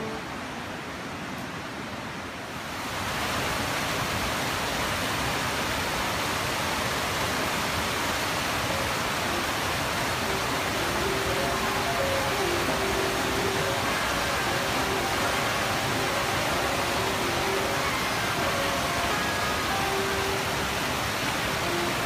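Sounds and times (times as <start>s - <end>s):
stream water rushing over rocks: 0.0s - 22.0s.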